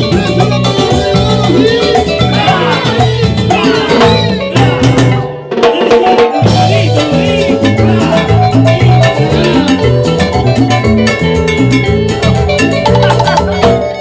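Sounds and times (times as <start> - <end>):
bass line: 0.0 - 5.4, 6.4 - 14.0
latin dance band playing: 0.0 - 14.0.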